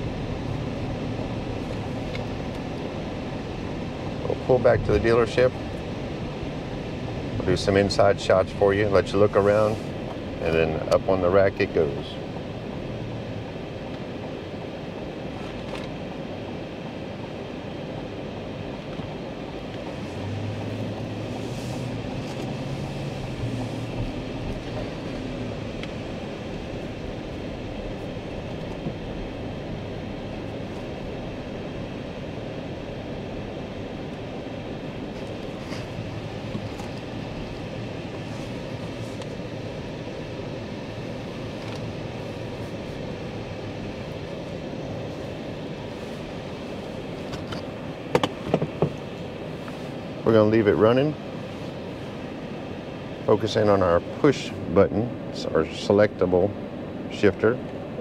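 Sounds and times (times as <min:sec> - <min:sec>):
road and engine noise: 0:00.0 - 0:58.0.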